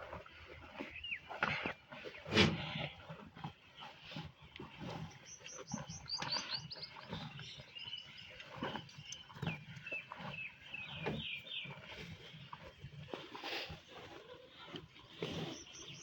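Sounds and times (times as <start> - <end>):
buffalo chewing grass: 0.0 - 16.0
small birds chirping: 0.3 - 16.0.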